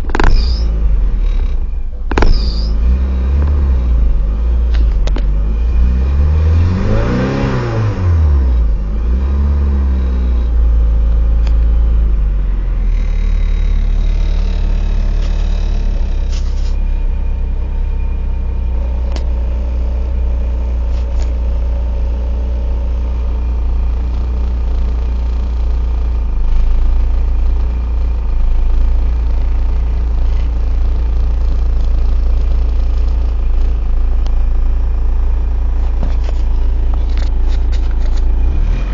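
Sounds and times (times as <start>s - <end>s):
car engine revving: 0.0s - 18.1s, 18.7s - 38.9s
car engine idling: 0.0s - 38.9s.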